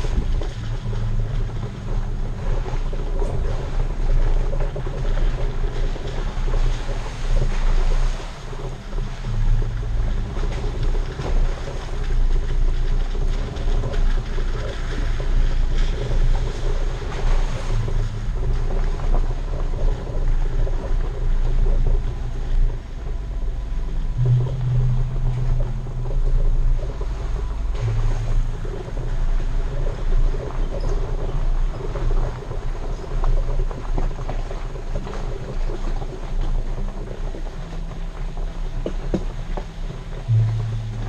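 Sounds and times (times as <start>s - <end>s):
off-road vehicle engine and tyres: 0.0s - 41.0s
wind buffeting microphone: 0.0s - 41.0s.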